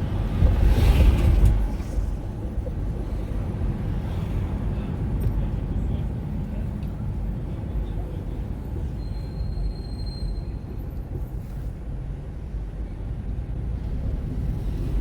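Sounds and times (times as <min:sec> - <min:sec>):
car road and engine rumble: 0:00.0 - 0:09.3, 0:10.4 - 0:15.0.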